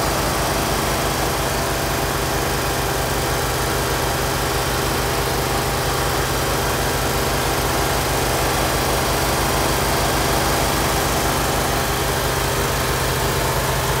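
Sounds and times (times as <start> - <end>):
pressure washer engines running: 0.0 - 14.0.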